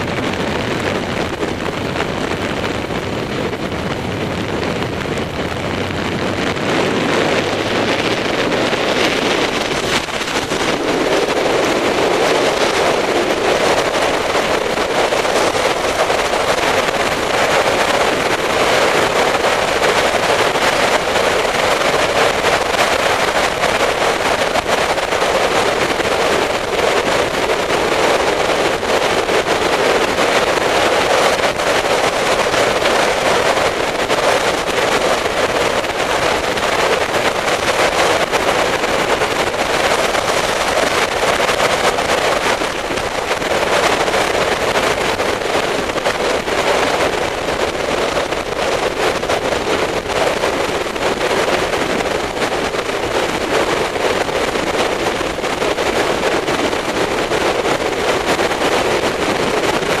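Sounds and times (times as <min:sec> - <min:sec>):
motorcycle engine and tyre noise: 0:00.0 - 1:00.0
wind rushing over microphone: 0:00.0 - 1:00.0.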